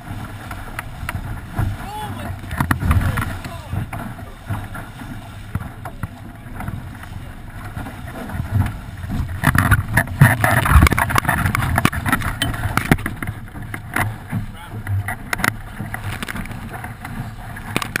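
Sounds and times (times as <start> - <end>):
water rushing along hull: 0.0 - 18.0
waves slapping hull: 0.0 - 18.0
wind buffeting microphone: 0.0 - 18.0.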